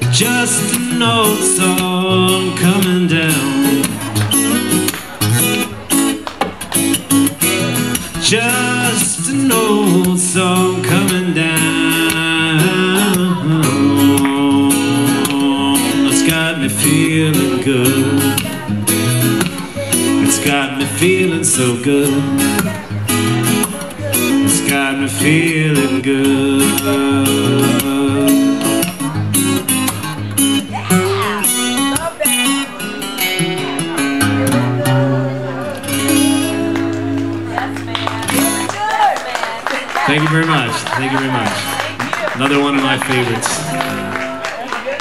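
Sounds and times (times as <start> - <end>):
acoustic guitar strummed and picked: 0.0 - 45.0.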